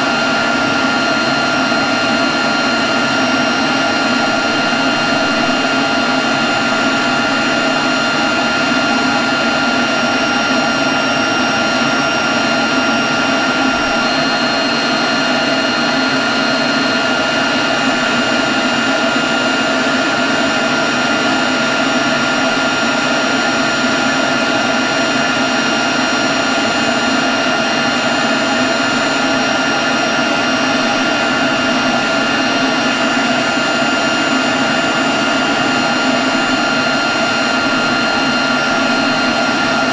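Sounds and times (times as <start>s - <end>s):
leaf blower running: 0.0s - 39.9s.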